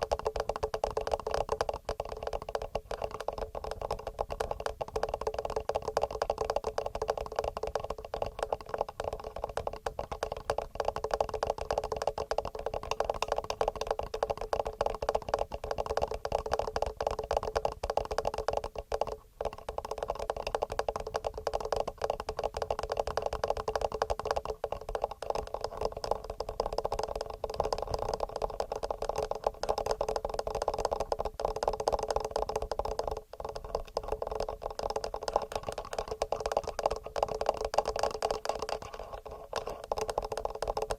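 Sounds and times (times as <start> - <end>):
fingernail tapping on microphone: 0.0 - 40.9.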